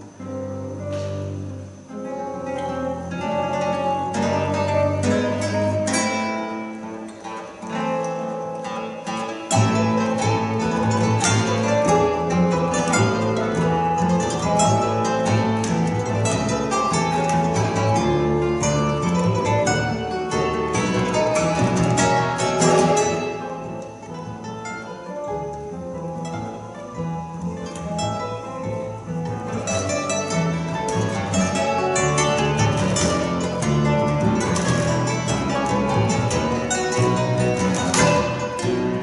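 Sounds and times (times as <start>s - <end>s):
classical guitars plucking: 0.0s - 39.0s
double bass line: 0.0s - 39.0s.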